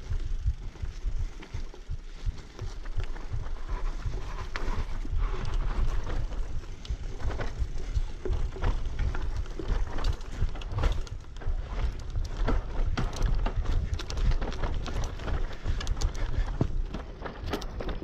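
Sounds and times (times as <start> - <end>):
bicycle tyres crunching on dirt: 0.0 - 18.0
bike rattling clicks: 0.0 - 18.0
steady low rumble: 0.0 - 18.0.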